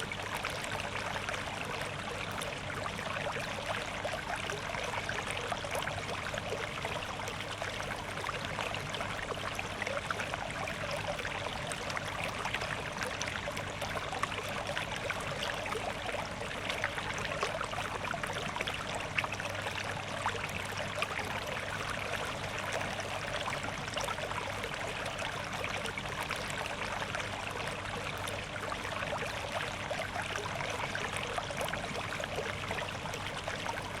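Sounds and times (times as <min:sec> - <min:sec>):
water flowing and trickling: 0:00.0 - 0:34.0.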